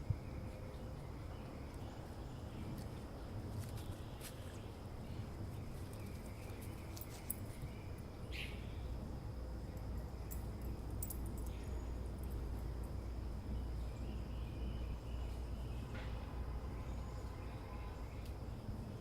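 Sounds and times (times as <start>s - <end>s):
faint high insect-like tone: 0.0s - 19.0s.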